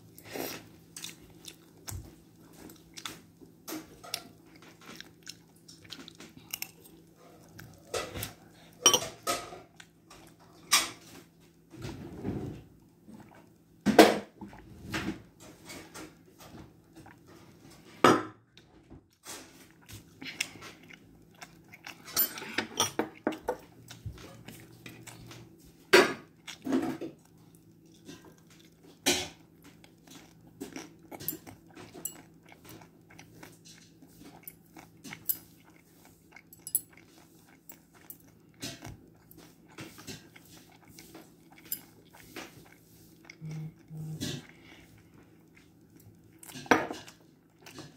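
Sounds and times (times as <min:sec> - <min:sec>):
child chewing food: 0:00.0 - 0:18.0, 0:19.1 - 0:47.9.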